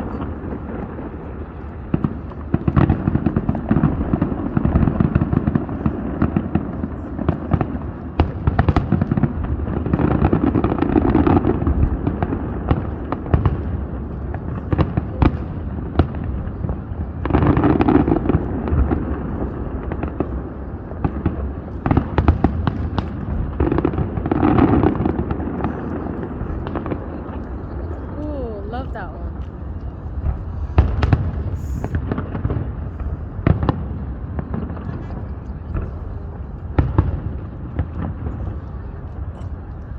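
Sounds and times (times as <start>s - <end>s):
fireworks booms and crackling: 0.0s - 39.9s.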